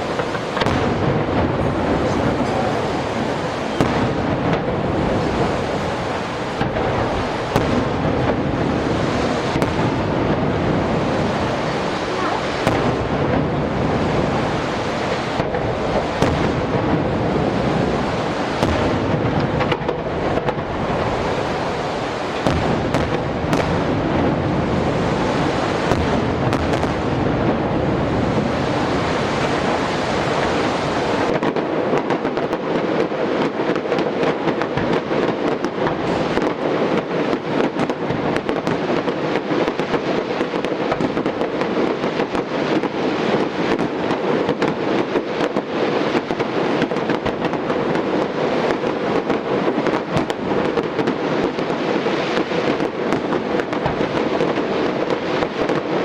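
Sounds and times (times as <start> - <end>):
fireworks bursts and crackling: 0.0 - 56.0.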